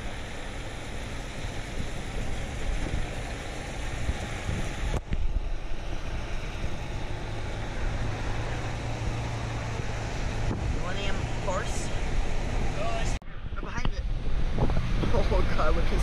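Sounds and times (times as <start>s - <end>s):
low hum: 0.0s - 16.0s
low rumble of moving vehicle: 0.0s - 16.0s
wind noise on microphone: 0.7s - 16.0s.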